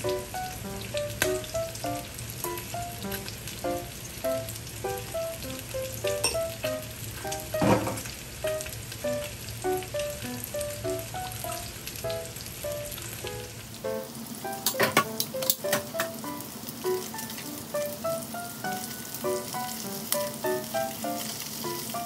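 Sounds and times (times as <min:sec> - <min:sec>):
plucked background music: 0:00.0 - 0:07.7, 0:08.4 - 0:22.0
fish sizzling in a frying pan: 0:00.0 - 0:22.0.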